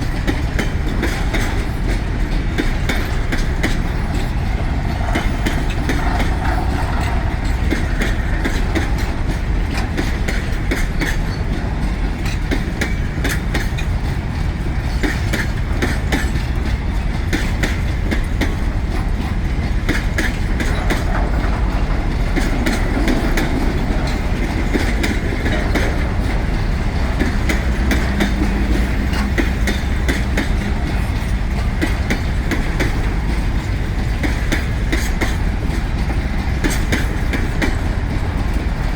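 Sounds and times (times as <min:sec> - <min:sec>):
freight train rolling past: 0:00.0 - 0:38.9
wheels clacking over rail joints: 0:00.0 - 0:38.9.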